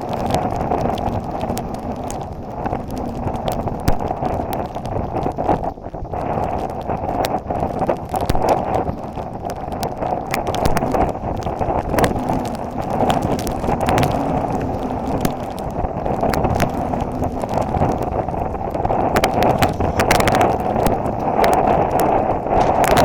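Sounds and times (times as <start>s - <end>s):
footfalls clicking on path: 0.0s - 23.0s
strong wind on microphone: 0.0s - 23.0s.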